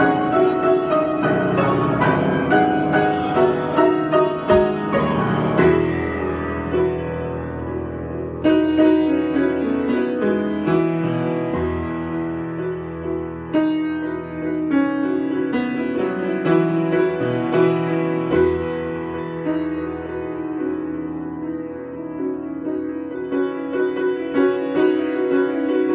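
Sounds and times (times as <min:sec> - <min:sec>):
solo piano improvisation: 0:00.0 - 0:25.9.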